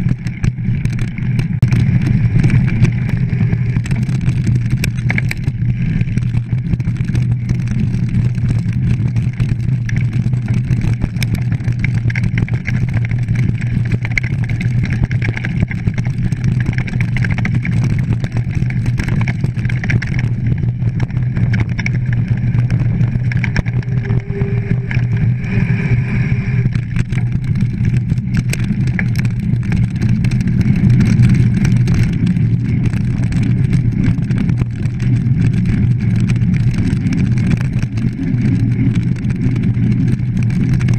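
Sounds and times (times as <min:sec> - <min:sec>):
bike rattling and clicking: 0:00.0 - 0:40.9
tyres rumbling on ground: 0:00.0 - 0:40.9
wind on microphone: 0:00.0 - 0:40.9.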